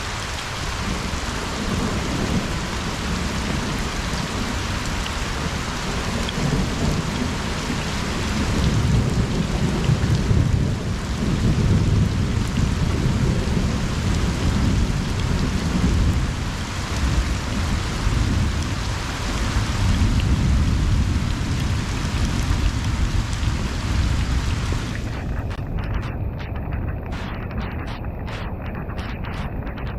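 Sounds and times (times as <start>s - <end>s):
rain pattering on a pond: 0.0s - 29.9s
distant thunder rumbling: 0.8s - 29.9s.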